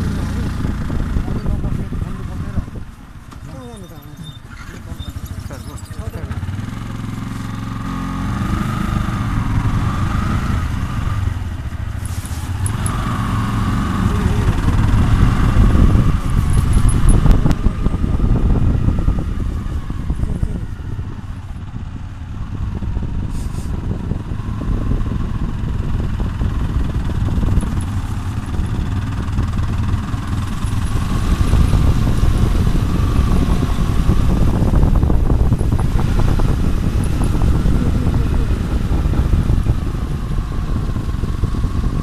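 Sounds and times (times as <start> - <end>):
wind buffeting microphone: 0.0 - 3.8, 4.4 - 42.0
motorcycle engine rumble: 0.0 - 42.0.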